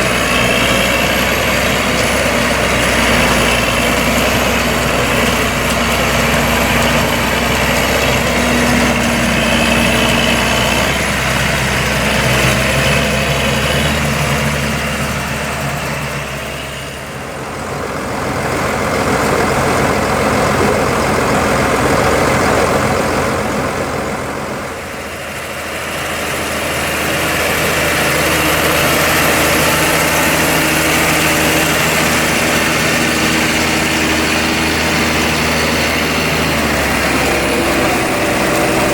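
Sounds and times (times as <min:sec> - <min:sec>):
diesel tractor engine running: 0:00.0 - 0:38.9
harvesting machinery drone: 0:00.0 - 0:38.9.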